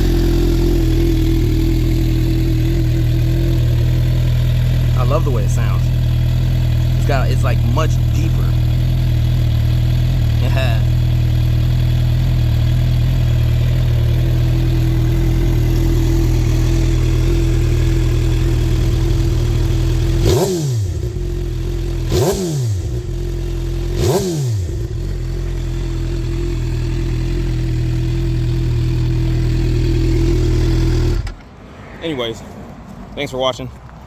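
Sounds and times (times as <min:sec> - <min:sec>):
engine revving: 0:00.0 - 0:31.5
motorcycle engine idling: 0:00.0 - 0:31.6.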